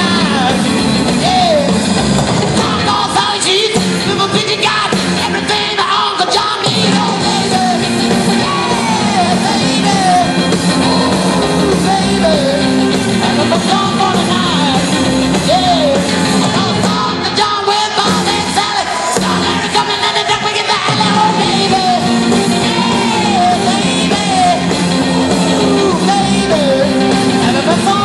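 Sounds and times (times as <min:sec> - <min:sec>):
bending electric guitar lead line: 0:00.0 - 0:28.0
live rock band playing: 0:00.0 - 0:28.0.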